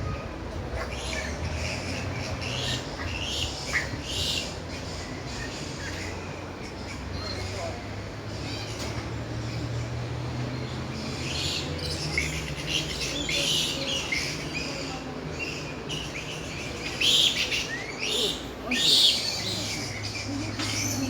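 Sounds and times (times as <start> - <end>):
birds calling and chirping: 0.0 - 21.0.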